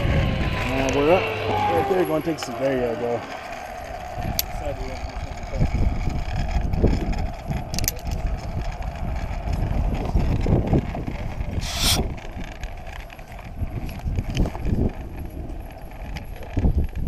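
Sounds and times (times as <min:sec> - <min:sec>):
wind buffeting microphone: 0:00.0 - 0:17.0
zipline trolley humming on cable: 0:00.0 - 0:17.0.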